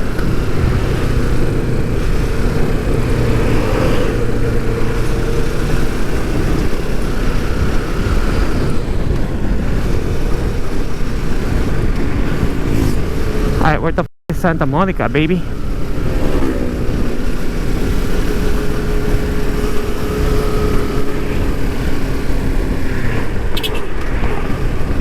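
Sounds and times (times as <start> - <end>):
motorcycle engine running: 0.0 - 25.0
wind rushing on microphone: 0.0 - 25.0.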